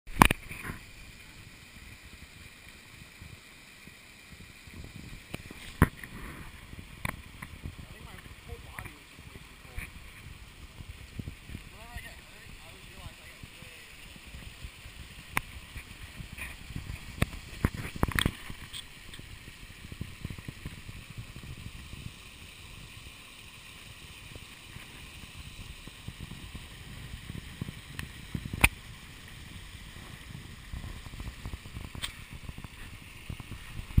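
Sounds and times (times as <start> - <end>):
creek water rushing: 0.1 - 34.0.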